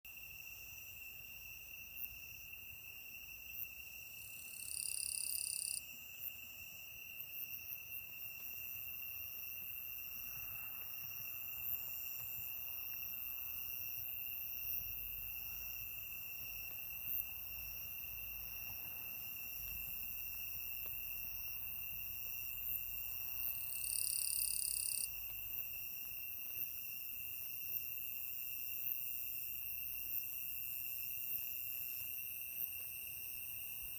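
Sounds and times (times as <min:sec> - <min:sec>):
faint high-pitched insects: 0:00.1 - 0:33.9
loud high insect call: 0:00.1 - 0:33.9
insects trilling: 0:00.2 - 0:33.9.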